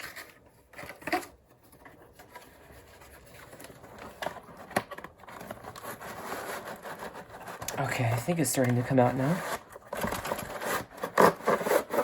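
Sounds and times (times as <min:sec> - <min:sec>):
plastic scraping and crackling: 0:00.0 - 0:12.0.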